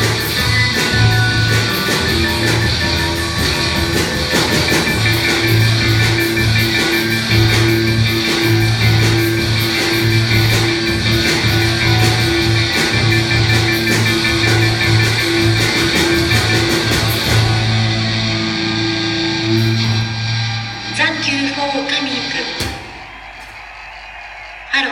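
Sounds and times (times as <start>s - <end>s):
rock instrumental music: 0.0s - 23.3s
percussion hits: 0.0s - 24.5s.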